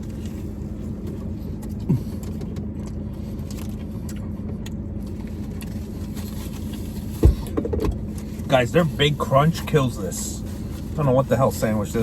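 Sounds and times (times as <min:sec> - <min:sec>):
vehicle idling hum: 0:00.0 - 0:12.0.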